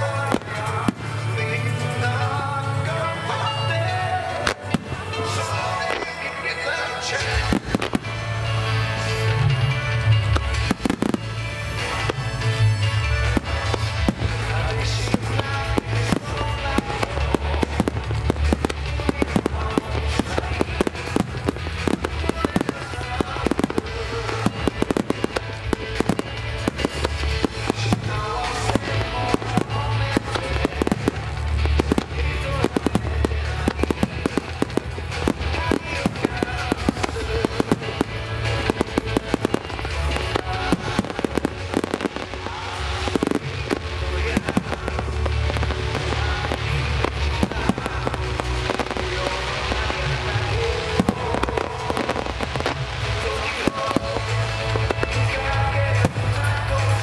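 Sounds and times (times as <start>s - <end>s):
fireworks bursting: 0.0s - 57.0s
music: 0.0s - 57.0s.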